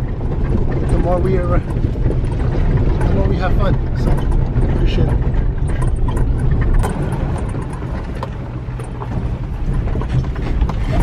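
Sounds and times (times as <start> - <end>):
pickup truck engine and tyres rumbling: 0.0 - 11.0
small clicks and rattles: 0.0 - 11.0.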